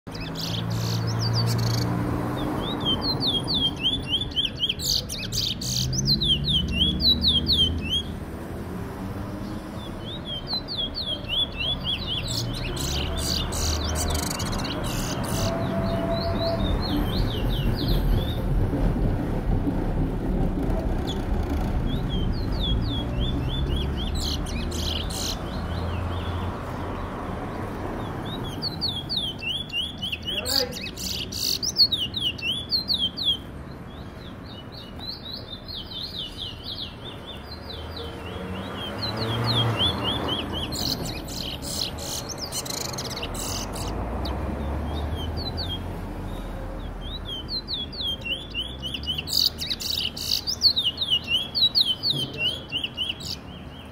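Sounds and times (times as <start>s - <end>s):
finch singing rapid chirps: 0.1s - 8.2s, 9.4s - 18.6s, 20.9s - 53.9s.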